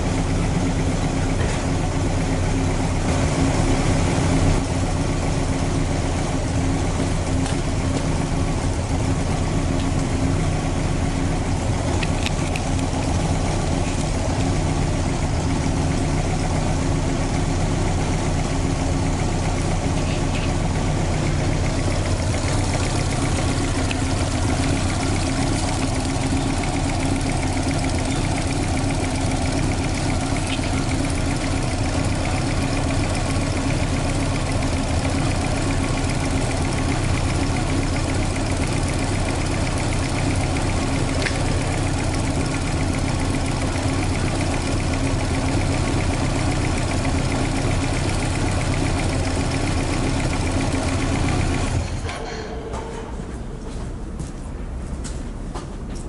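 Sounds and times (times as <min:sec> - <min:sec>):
car engine idling: 0:00.0 - 0:54.4.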